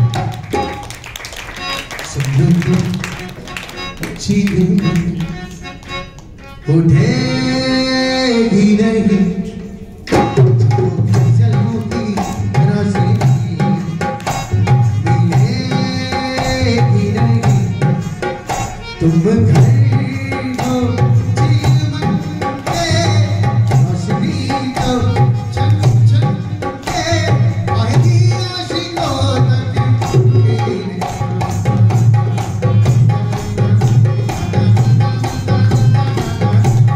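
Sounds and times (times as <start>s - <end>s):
fast hand drum rhythm: 0.0s - 5.5s, 10.1s - 36.9s
held folk melody: 0.0s - 36.9s.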